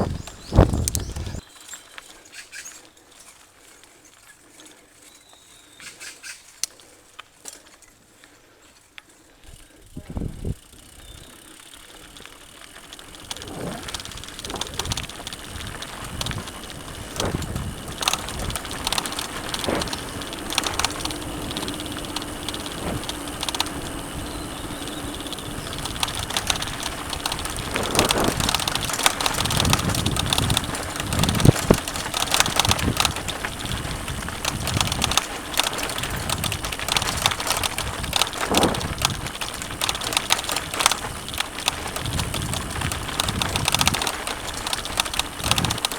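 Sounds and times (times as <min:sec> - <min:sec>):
bike knocking and rattling: 0:00.0 - 0:01.4, 0:05.9 - 0:45.9
bike tyres on dirt and stones: 0:00.0 - 0:45.9.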